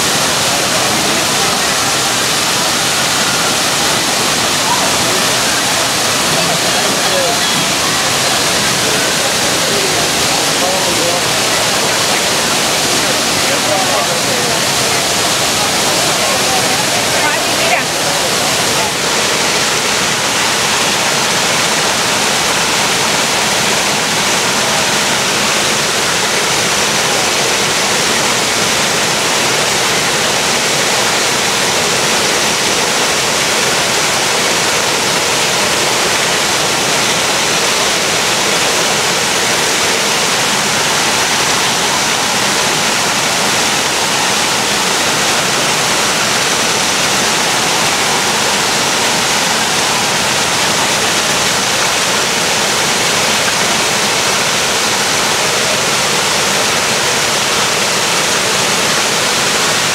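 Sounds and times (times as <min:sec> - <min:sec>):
waterfall rushing water: 0:00.0 - 0:59.9.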